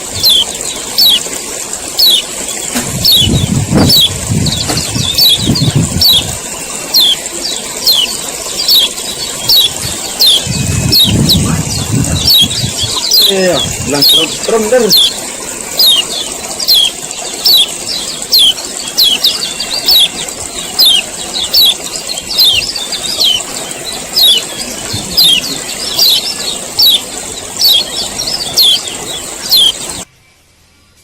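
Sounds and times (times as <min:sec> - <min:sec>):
bird sharp repeated calls: 0:00.0 - 0:30.1
steady high hiss: 0:00.0 - 0:31.0.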